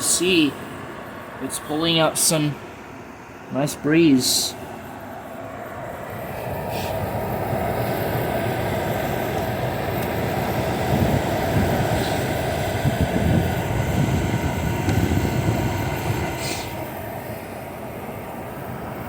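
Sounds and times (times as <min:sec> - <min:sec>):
dehumidifier fan rushing air: 0:00.0 - 0:19.0.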